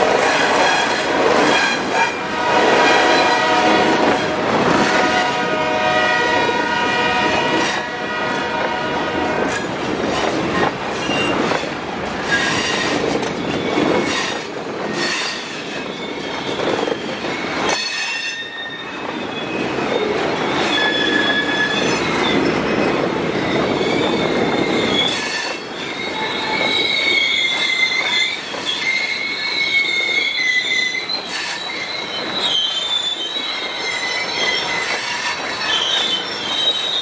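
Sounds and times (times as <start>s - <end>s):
rumble and clanking of rail cars: 0.0s - 37.0s
train wheels squealing on rails: 0.0s - 37.0s.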